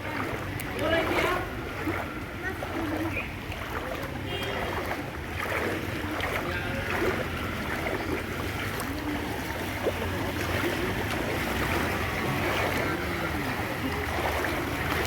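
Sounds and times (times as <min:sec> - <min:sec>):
floodwater rushing and sloshing: 0:00.0 - 0:15.0.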